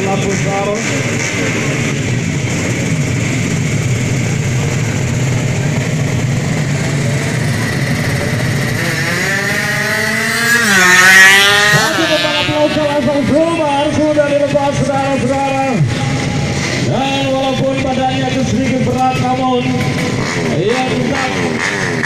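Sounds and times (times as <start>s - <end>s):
motorcycle accelerating hard: 0.0s - 22.0s.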